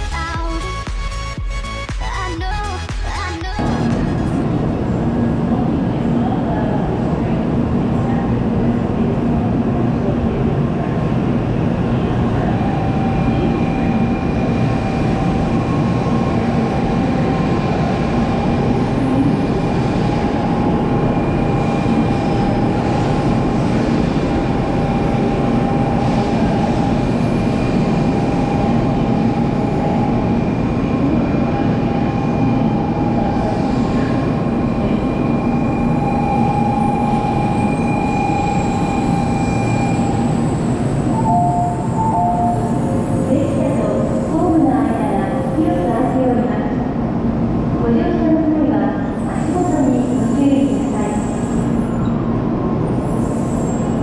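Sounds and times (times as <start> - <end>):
train rumbling past: 2.7 - 54.0.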